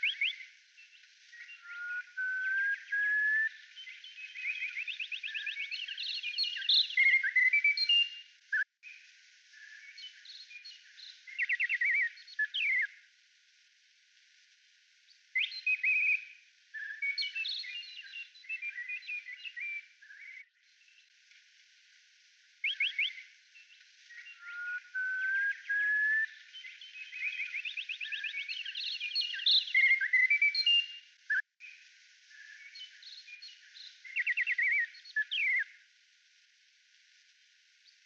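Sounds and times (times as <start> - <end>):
birds singing: 0.0 - 8.3, 9.6 - 13.0, 15.2 - 21.1, 22.6 - 35.8.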